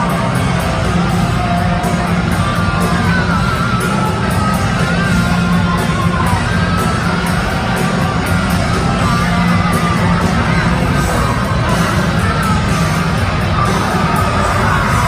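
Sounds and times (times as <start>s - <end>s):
loud music with wavering melody: 0.0s - 15.0s.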